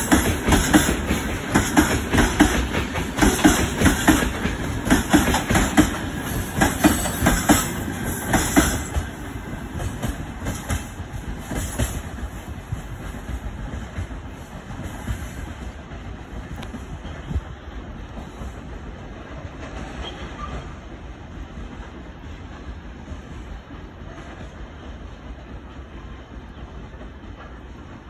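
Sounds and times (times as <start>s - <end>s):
train wheels clattering: 0.0s - 28.0s.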